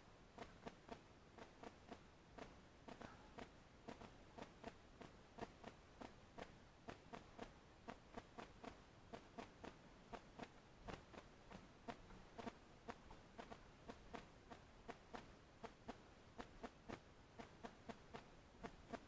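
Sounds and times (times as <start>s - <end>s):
birds pecking at seed: 0.4s - 19.0s.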